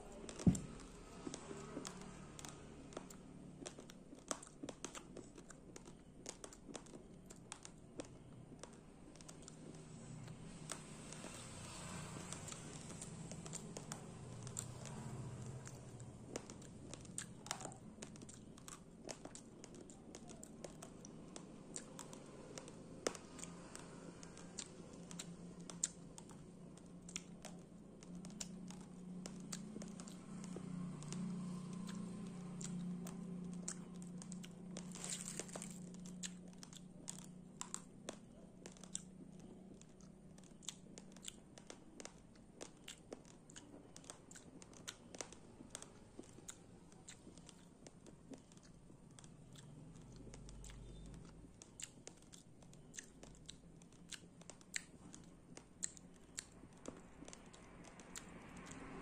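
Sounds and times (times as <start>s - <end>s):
dry rice grains being chewed: 0.0s - 59.0s
faint low hum: 0.0s - 59.0s.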